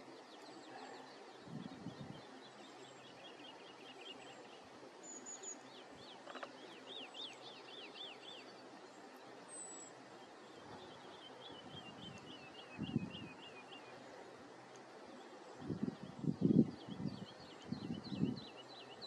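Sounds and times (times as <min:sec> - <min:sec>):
songbird chirping: 0:00.0 - 0:19.0
steady outdoor hiss: 0:00.0 - 0:19.0.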